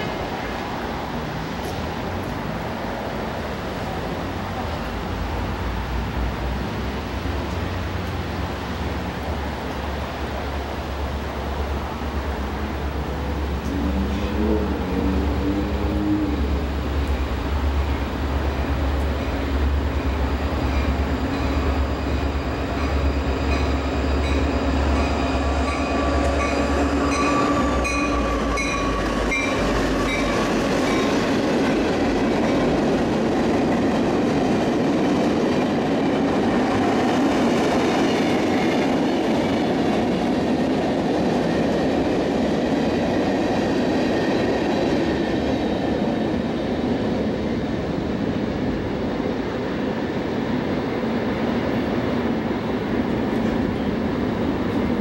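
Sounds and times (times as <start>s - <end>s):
diesel locomotive rumble: 0.0s - 55.0s.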